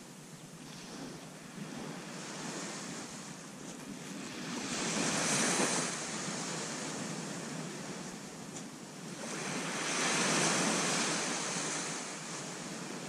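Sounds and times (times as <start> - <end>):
wind buffeting microphone: 0.0 - 13.0
surf washing onto sandy beach: 0.6 - 13.0.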